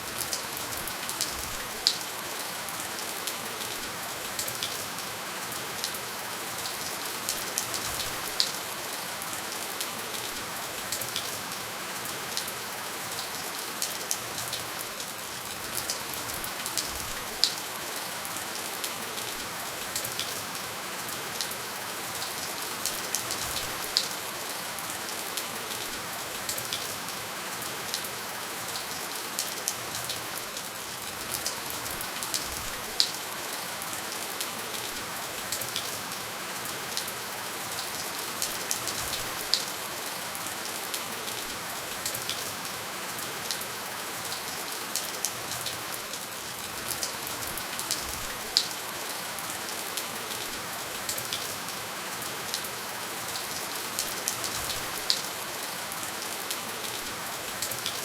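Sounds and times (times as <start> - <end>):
raindrops pattering on a surface: 0.0 - 58.0.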